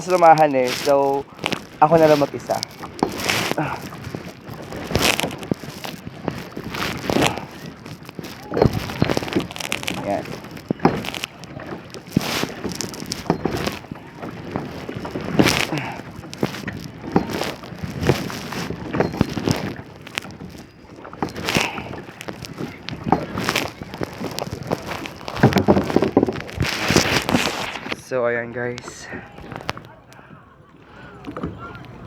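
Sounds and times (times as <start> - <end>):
paddle splashing in water: 0.0 - 28.0, 28.8 - 30.1
water dripping: 0.0 - 28.0.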